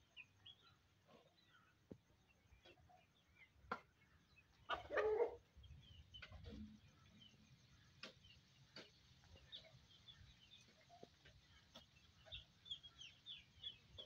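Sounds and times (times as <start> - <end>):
chicken clucking: 2.6 - 14.0.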